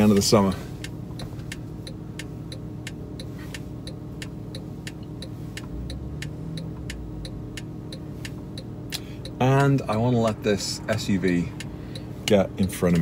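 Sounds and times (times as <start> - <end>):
car engine idling: 0.0 - 13.0
turn signal ticking: 0.0 - 13.0.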